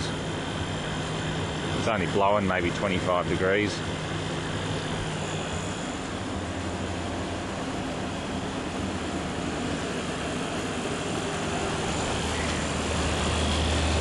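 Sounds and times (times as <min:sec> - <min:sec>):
air conditioner fan air rushing: 0:00.0 - 0:14.0
low compressor hum: 0:00.0 - 0:14.0.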